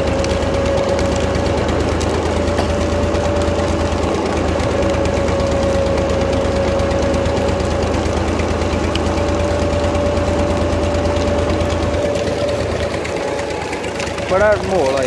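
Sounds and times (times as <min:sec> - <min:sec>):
steady whine: 0:00.0 - 0:15.0
tractor engine running under load: 0:00.0 - 0:15.0.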